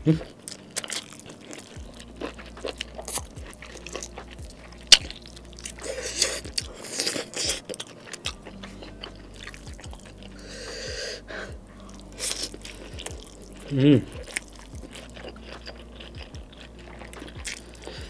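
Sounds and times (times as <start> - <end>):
mouth chewing with wet smacks: 0.2 - 18.0.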